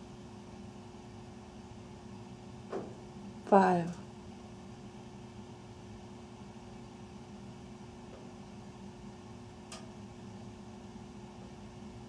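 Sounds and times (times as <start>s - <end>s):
furnace humming: 0.0s - 12.0s.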